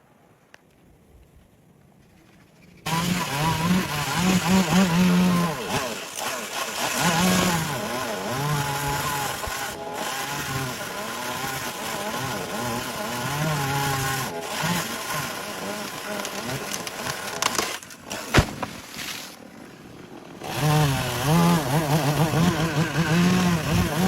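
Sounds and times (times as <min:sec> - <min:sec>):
chainsaw revving: 0:02.9 - 0:24.0.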